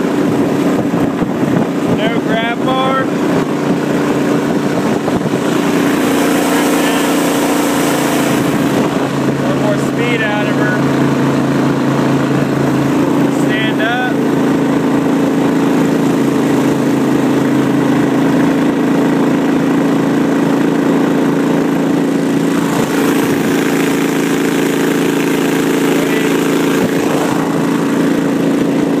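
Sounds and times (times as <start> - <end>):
boat mud motor running: 0.0 - 29.0.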